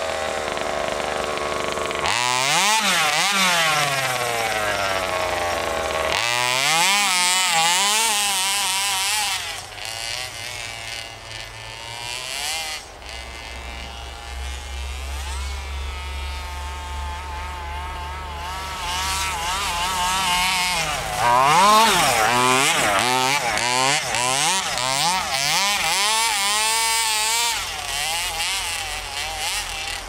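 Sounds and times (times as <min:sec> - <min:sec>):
rc truck engine revving: 0:00.0 - 0:30.0.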